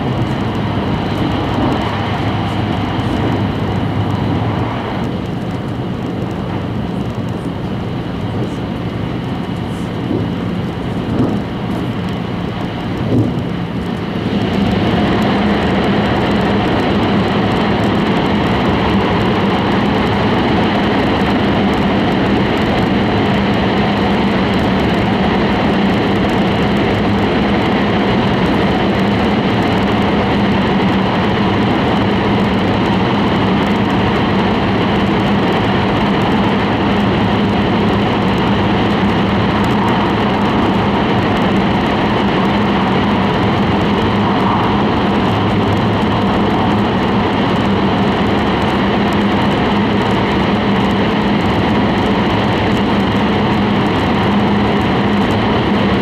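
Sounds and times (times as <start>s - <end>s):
train cabin rushing rumble: 0.0s - 52.9s
low hum: 0.0s - 56.0s.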